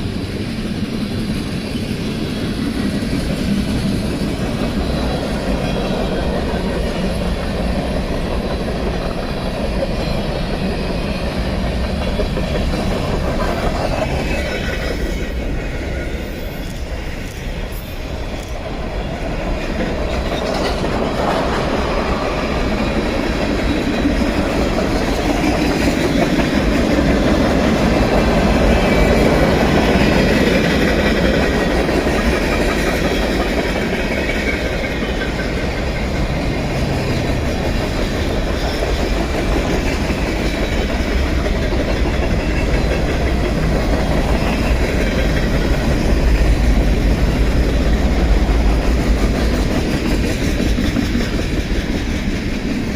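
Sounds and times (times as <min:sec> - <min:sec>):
train rumbling past: 0:00.0 - 0:52.9
wheels clattering on rails: 0:00.0 - 0:52.9.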